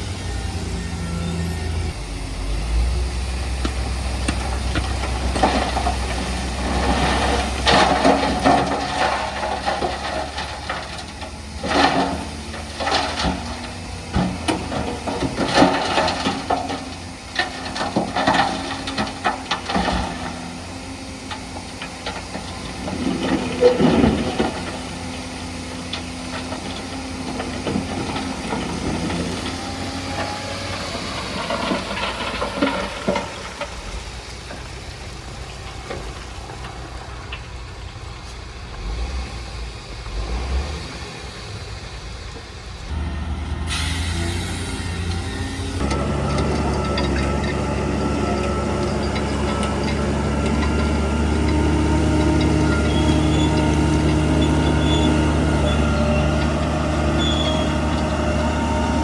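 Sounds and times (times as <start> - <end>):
bulldozer clanks and rattles: 0.0 - 59.0
diesel engine running: 0.0 - 59.0.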